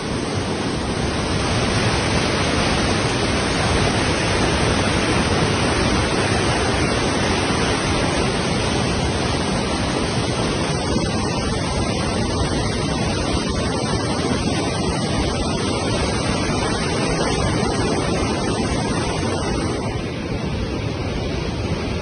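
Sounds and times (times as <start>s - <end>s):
flooded river rushing: 0.0s - 22.0s.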